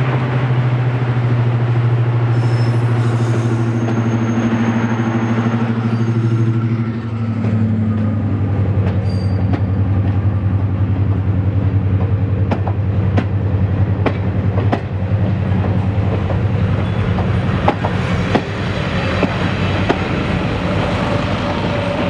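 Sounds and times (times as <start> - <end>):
train drone and rumble: 0.0 - 22.0.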